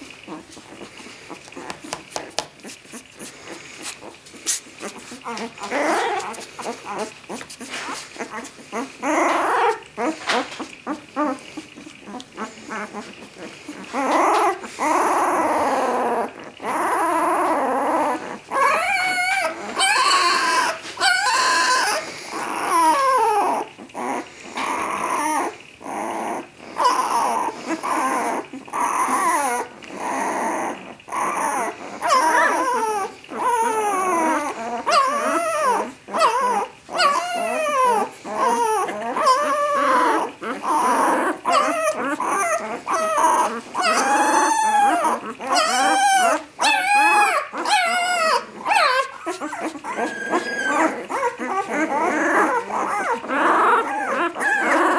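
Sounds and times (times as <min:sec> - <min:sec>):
puppies whining and squealing: 0:00.0 - 0:54.9.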